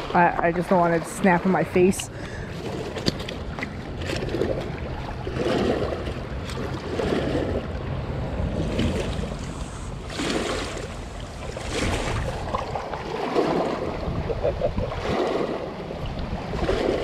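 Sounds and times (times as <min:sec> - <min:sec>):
waves lapping against rocks: 0:00.0 - 0:17.0
wind rumbling on microphone: 0:00.0 - 0:17.0.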